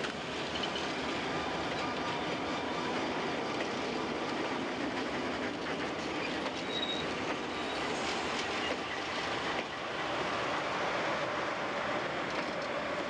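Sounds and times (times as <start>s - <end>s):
freight train wheels clicking: 0.0s - 13.0s.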